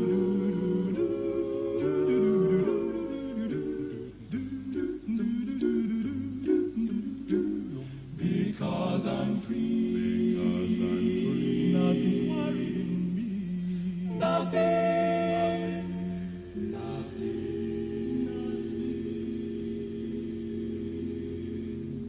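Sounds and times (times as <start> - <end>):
male a cappella ensemble singing: 0.0 - 22.0.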